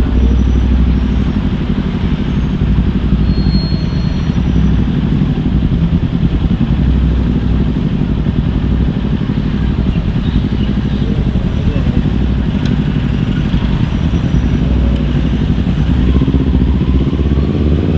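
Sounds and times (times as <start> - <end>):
motorcycle engine running at low revs: 0.0 - 17.9.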